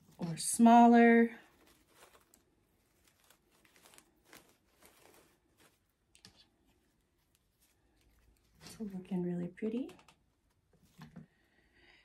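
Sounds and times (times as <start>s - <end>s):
artificial flowers rustling: 0.0s - 12.0s.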